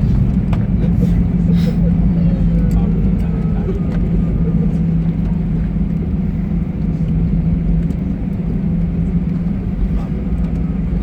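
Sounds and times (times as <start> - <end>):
airliner cabin rumble: 0.0 - 11.0
constant low hum: 0.0 - 11.0.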